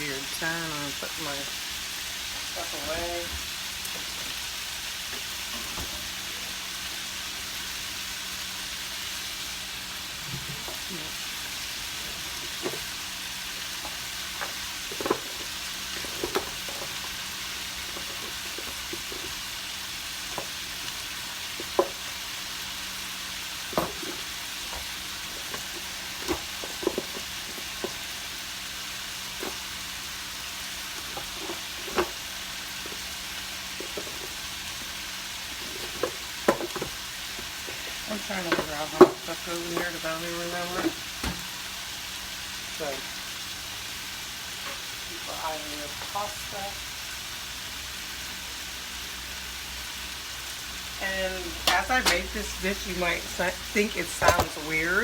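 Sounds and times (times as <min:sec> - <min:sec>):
chicken sizzling in a frying pan: 0:00.0 - 0:55.0.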